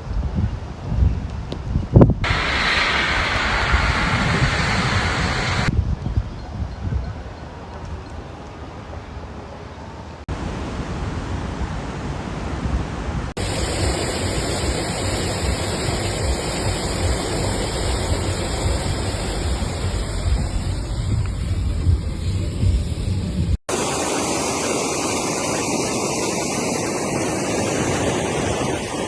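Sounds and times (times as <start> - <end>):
rushing storm water and wind: 0.0 - 9.3, 10.1 - 29.0.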